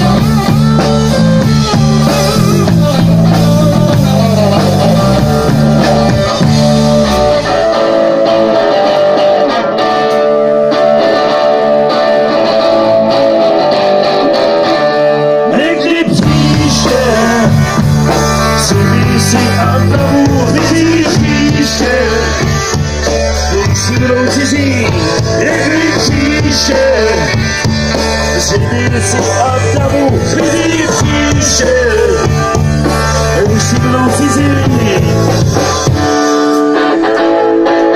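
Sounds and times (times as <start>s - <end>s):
bass: 0.0s - 37.9s
drum kit: 0.0s - 37.9s
electric guitars: 0.0s - 37.9s.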